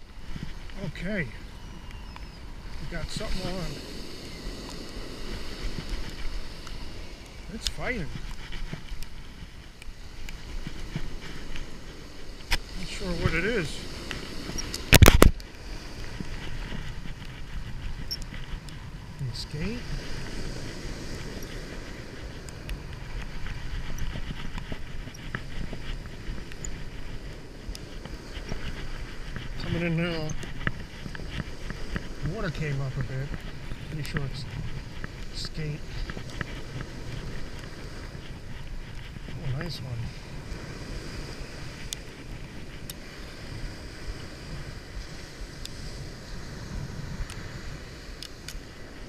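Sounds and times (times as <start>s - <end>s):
wind buffeting microphone: 0.0s - 49.0s
breaking surf: 2.6s - 49.0s.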